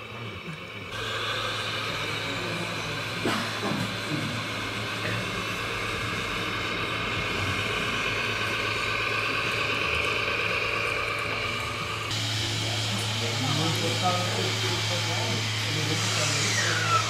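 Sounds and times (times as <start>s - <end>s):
constant hum and hiss: 0.0s - 17.0s
model truck electric drive whine: 0.0s - 17.0s.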